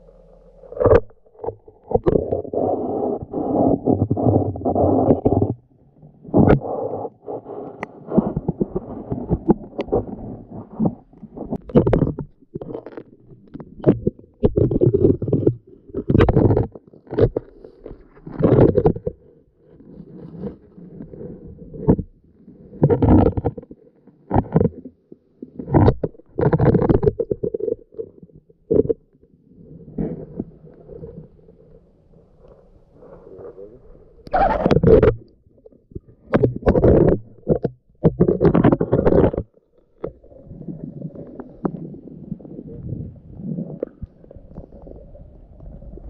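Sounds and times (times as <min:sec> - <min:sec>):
muffled underwater rumbling and sloshing: 0:00.0 - 0:46.0.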